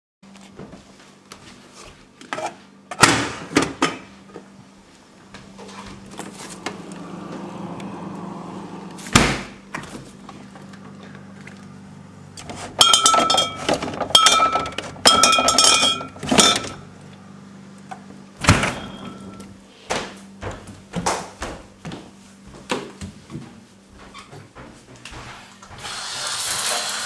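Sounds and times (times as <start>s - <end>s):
steady low hum: 3.2s - 25.7s.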